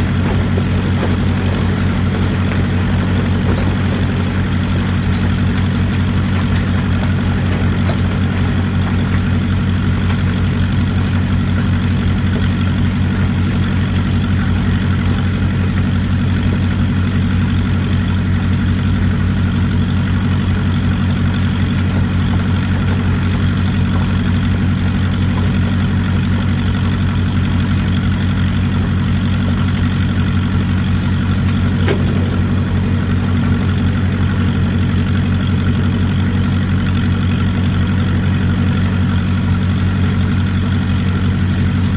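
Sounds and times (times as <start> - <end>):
excavator engine droning: 0.0 - 41.9.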